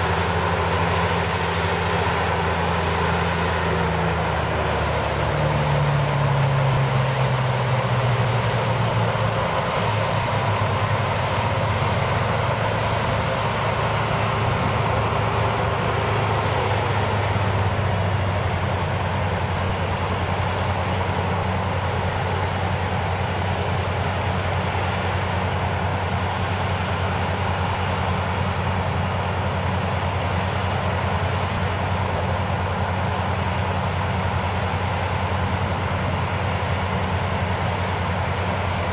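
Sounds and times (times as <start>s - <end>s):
combine harvester engines droning: 0.0s - 38.9s.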